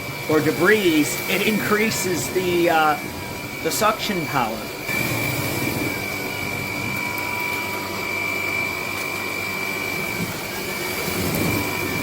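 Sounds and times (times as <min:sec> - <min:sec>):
stick vacuum running: 0:00.0 - 0:12.0.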